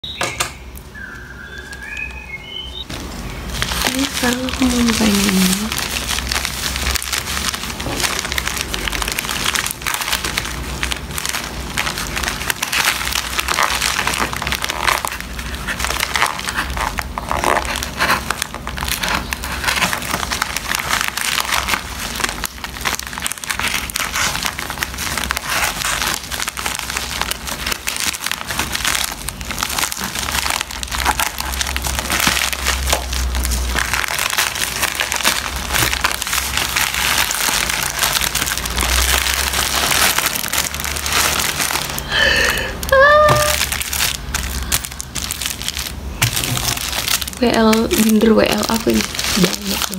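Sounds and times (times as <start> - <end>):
plastic mailer bag crinkling: 0.8 - 49.9
plastic bag tearing: 2.8 - 49.9.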